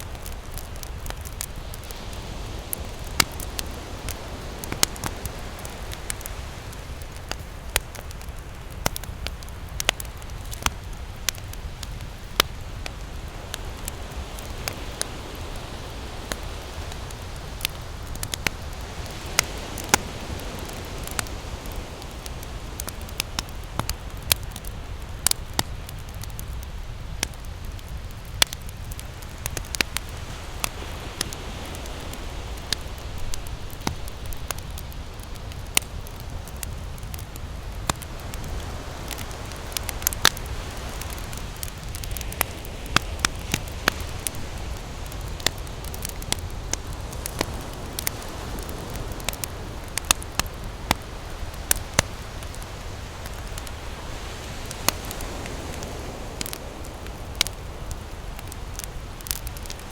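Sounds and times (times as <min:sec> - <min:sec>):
ocean surf rushing: 0:00.0 - 0:24.2, 0:28.6 - 0:59.9
campfire crackling and popping: 0:00.0 - 0:59.9.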